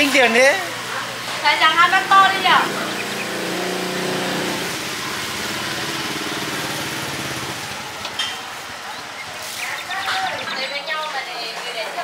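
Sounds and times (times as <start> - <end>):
small engine running: 0.3 - 10.5.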